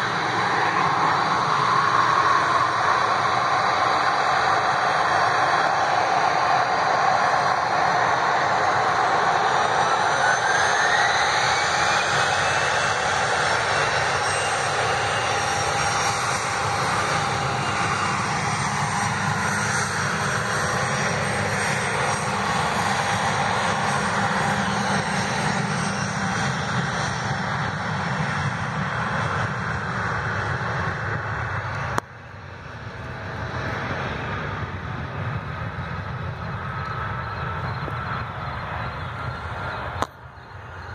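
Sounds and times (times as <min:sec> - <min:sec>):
jet engines at takeoff power: 0:00.0 - 0:40.9.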